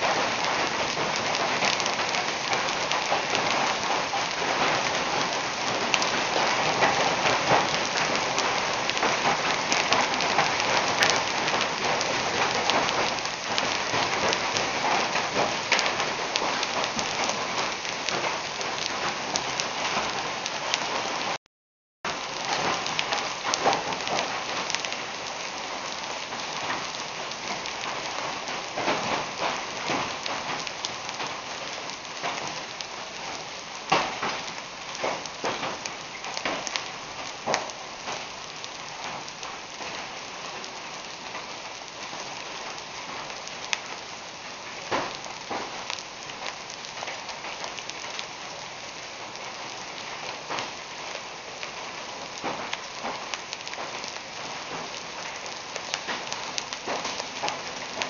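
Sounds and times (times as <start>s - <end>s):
hailstones ticking on pavement: 0.0s - 21.4s, 22.1s - 58.0s
heavy rain hissing: 0.0s - 21.4s, 22.1s - 58.0s.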